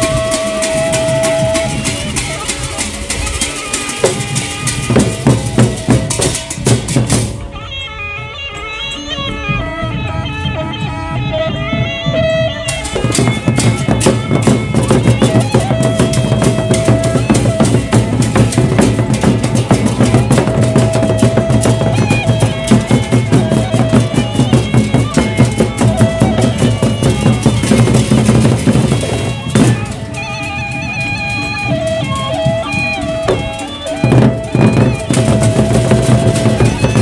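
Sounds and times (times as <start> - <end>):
big drums beaten fast: 0.0 - 7.5, 11.7 - 30.8, 31.8 - 37.0
cymbals clashing: 0.0 - 7.5, 12.6 - 37.0.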